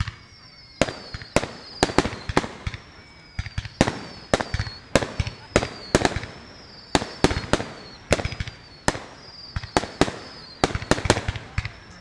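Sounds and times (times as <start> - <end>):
fireworks bangs: 0.0 - 12.0
high descending whistle: 0.0 - 12.0.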